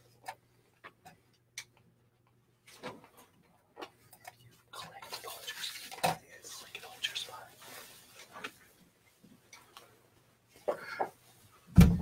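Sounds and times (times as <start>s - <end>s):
faint indistinct noise: 0.0s - 12.0s.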